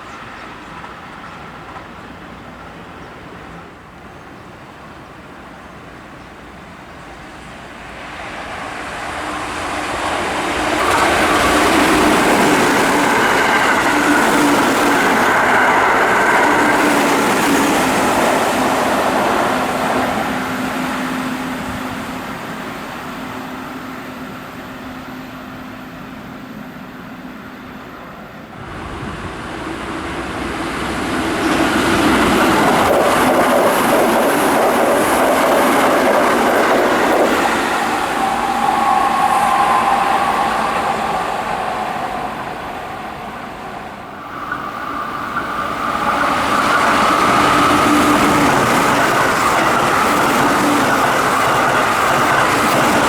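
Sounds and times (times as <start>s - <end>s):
electric trains passing at speed: 0.0s - 53.0s.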